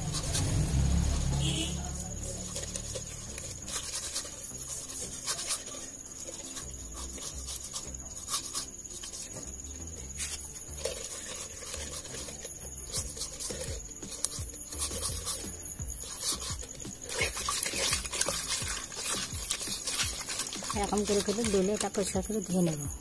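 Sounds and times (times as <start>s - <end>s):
fish pieces scraping a bowl: 0.0s - 23.0s.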